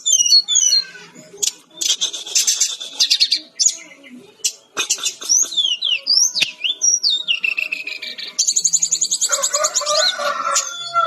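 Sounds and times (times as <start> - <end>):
bird singing whistles and trill: 0.0 - 11.0.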